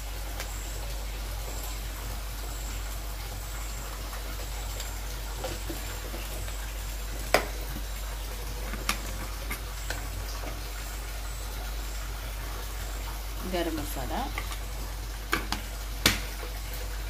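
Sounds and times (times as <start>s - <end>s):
stock bubbling at a rolling boil: 0.0s - 17.0s.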